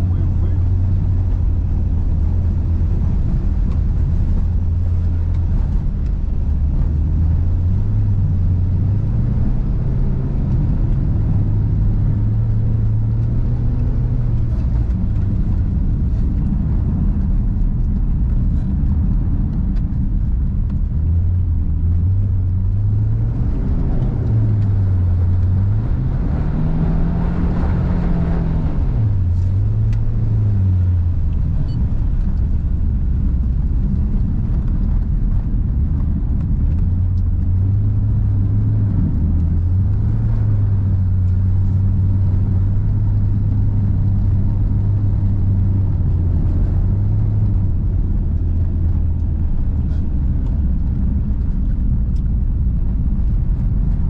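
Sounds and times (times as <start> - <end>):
car engine revving: 0.0 - 54.0
low rumble: 0.0 - 54.0.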